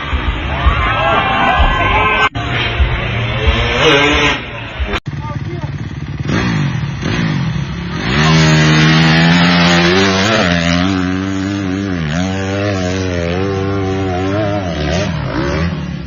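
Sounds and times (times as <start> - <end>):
motorcycle engine revving: 2.3 - 16.0.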